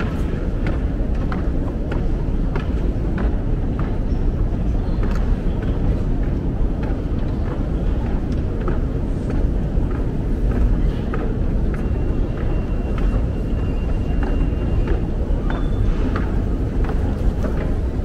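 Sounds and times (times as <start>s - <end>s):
footsteps walking: 0.0s - 18.0s.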